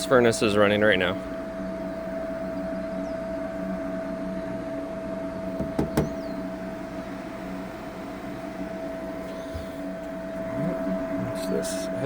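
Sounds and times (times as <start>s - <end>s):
pool heater humming: 0.0s - 12.0s.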